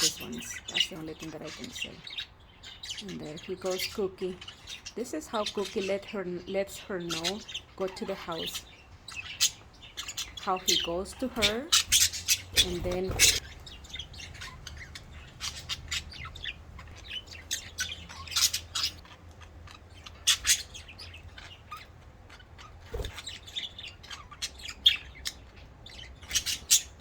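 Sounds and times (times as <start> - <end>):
budgerigars chirping and chattering: 0.0 - 27.0.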